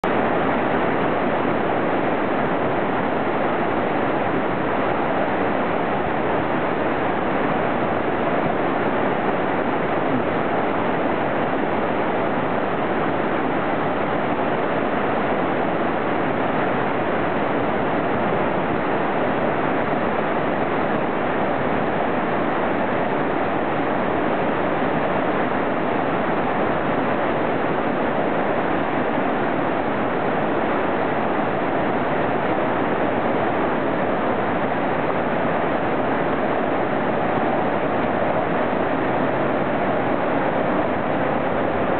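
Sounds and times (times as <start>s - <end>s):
river rushing over boulders: 0.0s - 41.9s.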